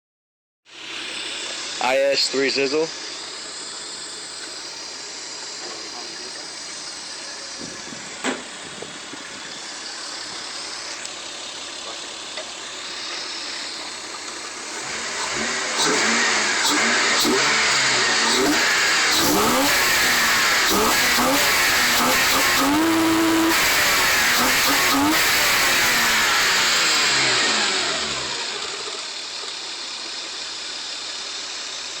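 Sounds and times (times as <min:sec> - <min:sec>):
car engine idling: 0:00.8 - 0:32.0.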